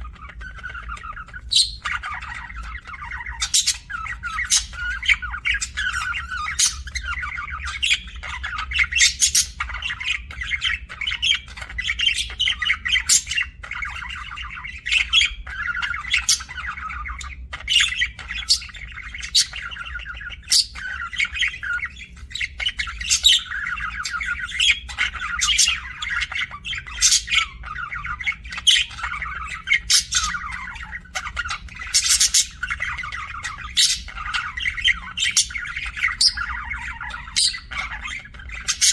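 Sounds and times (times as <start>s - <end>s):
budgerigars chattering: 0.0s - 38.9s
low steady hum: 0.0s - 38.9s.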